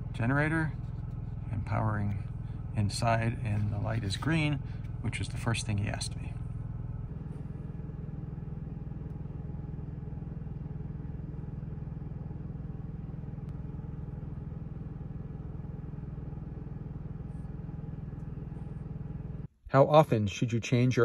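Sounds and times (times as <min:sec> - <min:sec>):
generator humming: 0:00.0 - 0:19.5.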